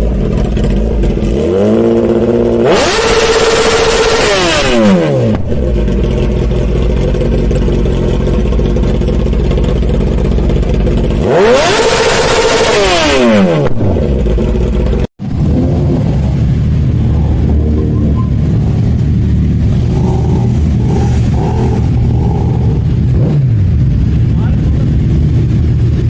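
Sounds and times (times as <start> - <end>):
motorcycle engine revving and idling: 0.0 - 26.0.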